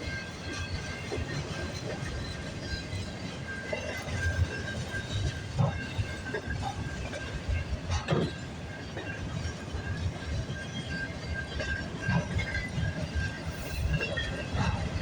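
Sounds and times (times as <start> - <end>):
freight train cars rolling past: 0.0 - 15.0.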